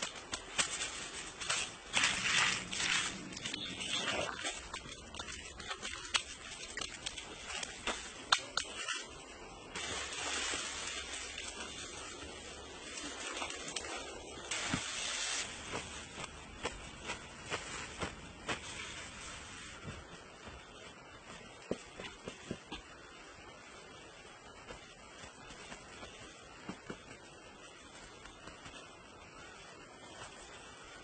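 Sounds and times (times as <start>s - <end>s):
hands scraping dry soil: 0.0s - 9.2s, 9.8s - 31.0s
outdoor background noise: 0.0s - 31.0s
steady hiss: 0.0s - 31.0s.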